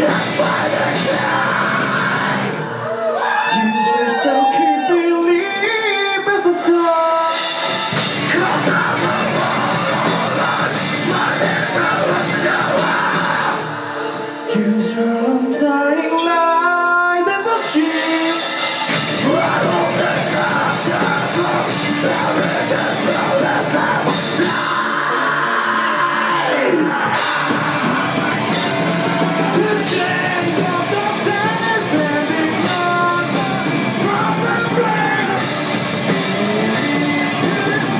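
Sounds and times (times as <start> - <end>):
live rock band playing: 0.0 - 37.9
person singing: 0.0 - 37.9.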